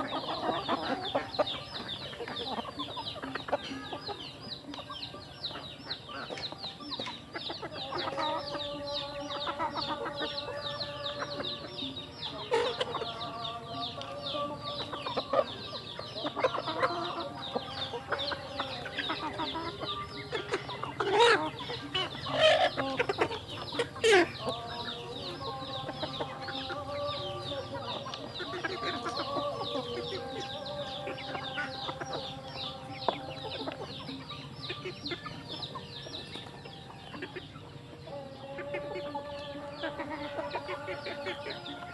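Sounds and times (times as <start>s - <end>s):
chickens clucking and calling: 0.0s - 41.9s.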